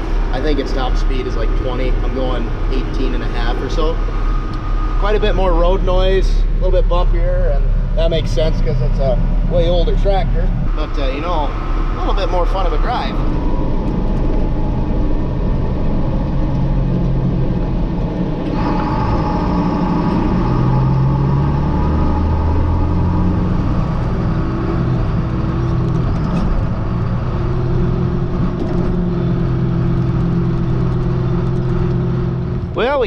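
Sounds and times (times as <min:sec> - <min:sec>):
high steady whine: 0:00.0 - 0:27.4
road noise: 0:00.0 - 0:33.0
tractor engine drone: 0:00.0 - 0:33.0.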